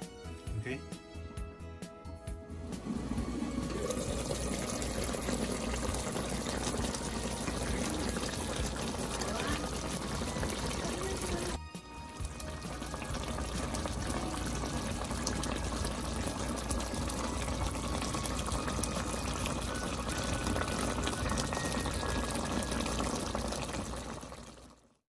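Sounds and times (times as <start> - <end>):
thick sauce bubbling and popping: 3.7 - 24.8.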